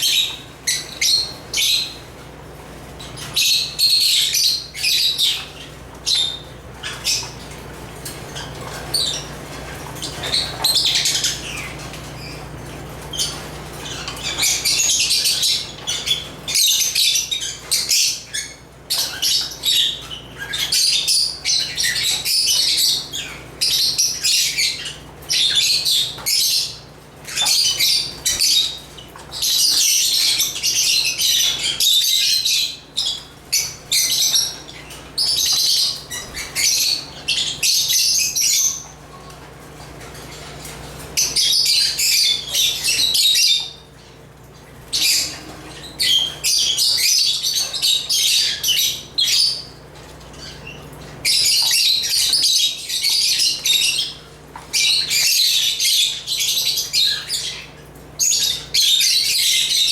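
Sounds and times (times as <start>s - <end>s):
lovebirds shrill chattering: 0.0s - 2.2s, 2.9s - 59.9s.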